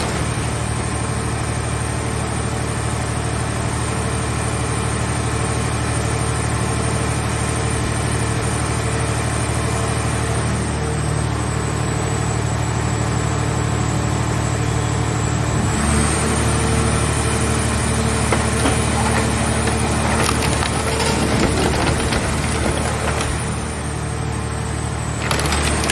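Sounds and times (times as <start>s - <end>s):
hydraulic power unit hum and whine: 0.0s - 25.9s.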